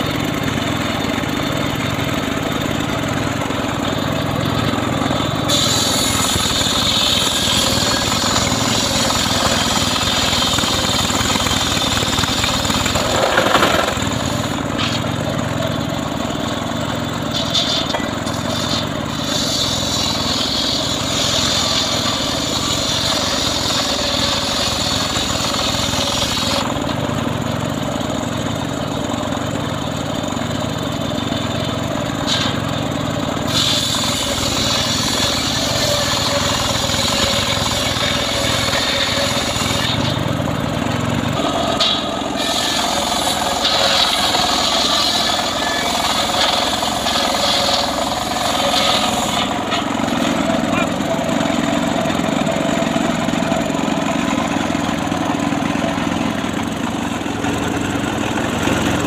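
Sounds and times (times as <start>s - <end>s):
log saw engine running: 0.0s - 59.0s.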